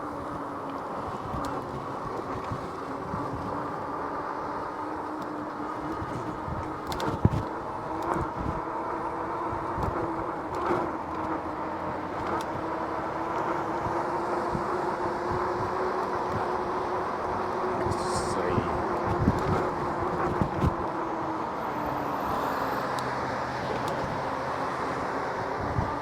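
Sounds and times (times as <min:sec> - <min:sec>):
tyres rolling on pavement: 0:00.0 - 0:17.8, 0:19.2 - 0:26.0.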